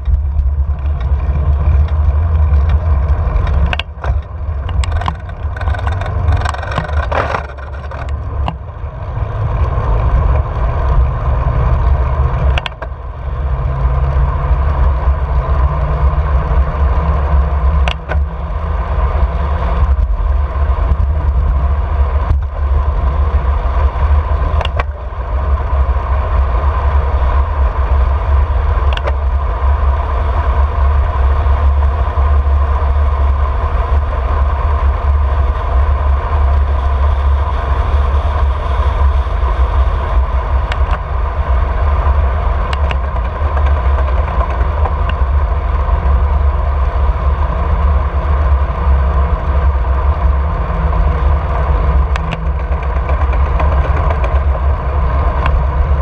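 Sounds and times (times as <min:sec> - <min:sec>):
tyre and road noise: 0:00.0 - 0:56.0
wind buffeting microphone: 0:00.0 - 0:56.0.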